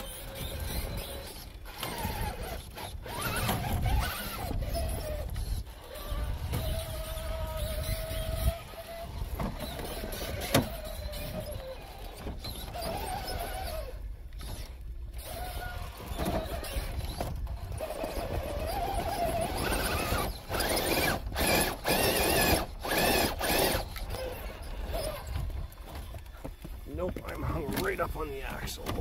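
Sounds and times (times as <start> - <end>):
toy car electric motor whining: 0.0 - 29.0.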